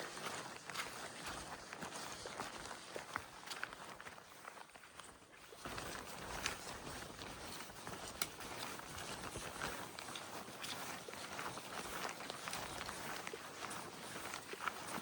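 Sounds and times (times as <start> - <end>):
footsteps on a trail: 0.0 - 15.0.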